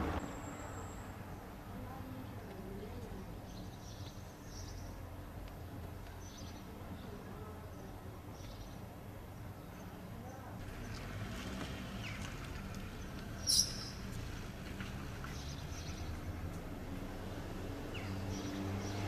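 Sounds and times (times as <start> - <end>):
small birds chirping: 0.2 - 14.3, 14.9 - 19.0.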